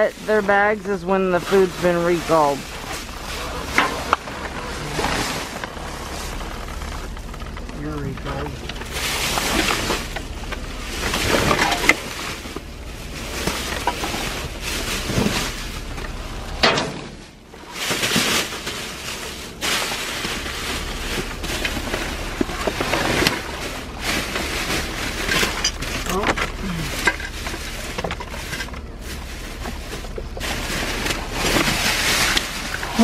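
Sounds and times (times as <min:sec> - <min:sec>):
bags rustling and knocking: 0:00.0 - 0:33.0
steady low rumble: 0:00.0 - 0:33.0.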